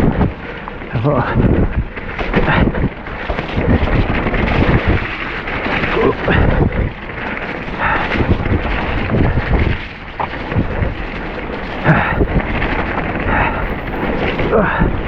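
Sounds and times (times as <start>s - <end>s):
bike knocks and rattles: 0.0s - 15.0s
wind rumble on microphone: 0.0s - 15.0s.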